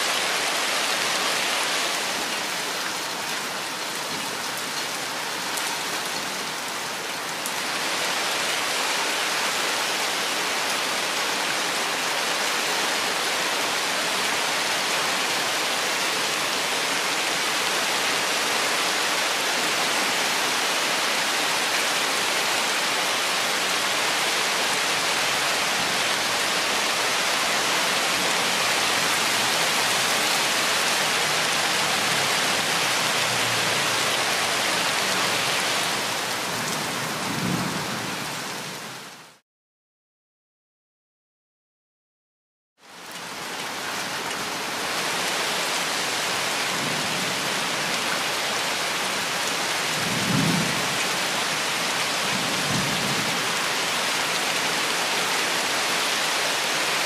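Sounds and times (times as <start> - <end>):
steady rainfall: 0.0 - 39.4, 42.8 - 57.0.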